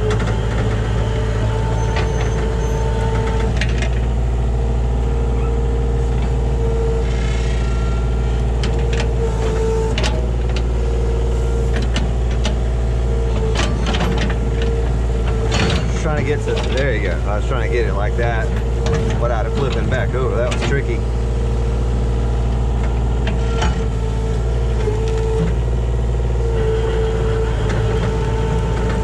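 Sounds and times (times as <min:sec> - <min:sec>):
excavator diesel engine running: 0:00.0 - 0:29.0
steady whine: 0:00.0 - 0:29.0.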